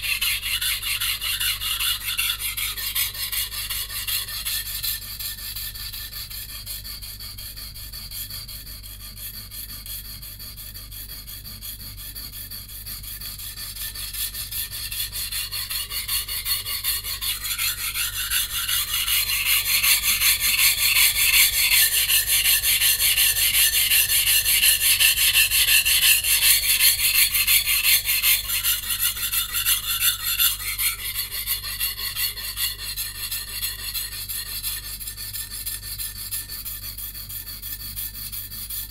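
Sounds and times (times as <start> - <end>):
knife scraping on whetstone: 0.0 - 38.9.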